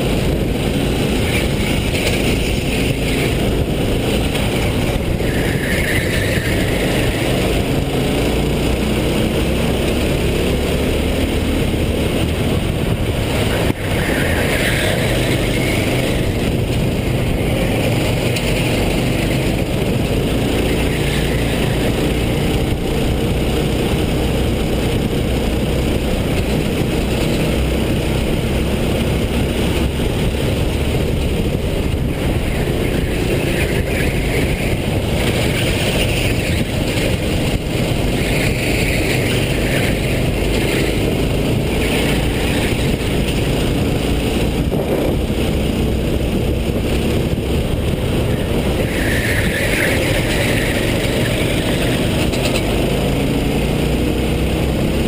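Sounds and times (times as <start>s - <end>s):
wind rushing: 0.0s - 53.5s
kart engines racing: 0.0s - 55.0s.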